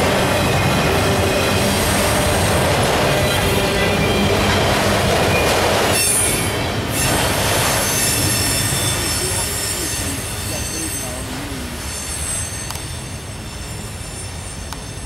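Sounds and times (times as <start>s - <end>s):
steel wheels rumbling on rail: 0.0s - 15.0s
wheels squealing: 0.0s - 15.0s.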